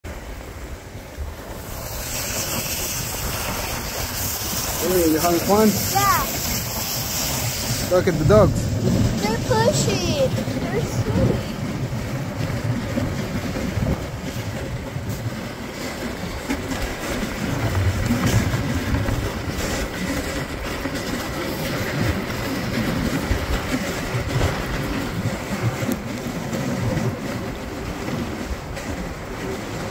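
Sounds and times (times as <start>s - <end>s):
sled knocks and jolts: 0.1s - 29.9s
sled runners scraping over snow: 0.1s - 29.9s.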